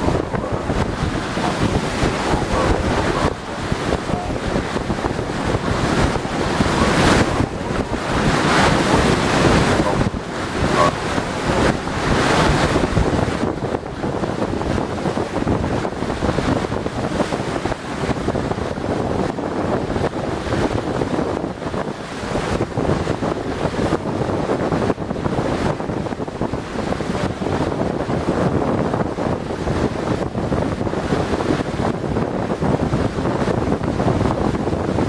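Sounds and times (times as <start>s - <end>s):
sea water washing: 0.0s - 35.0s
wind buffeting microphone: 0.0s - 35.0s.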